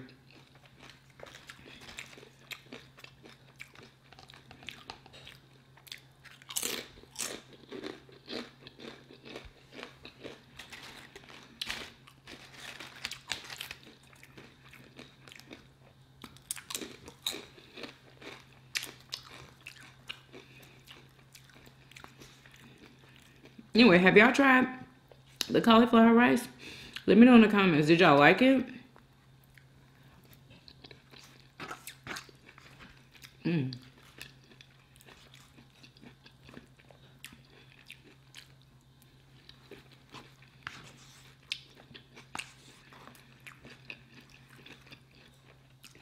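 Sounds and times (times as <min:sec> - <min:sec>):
crunching and chewing chips: 0:00.0 - 0:23.7, 0:28.9 - 0:46.0
faint low hum: 0:00.0 - 0:46.0.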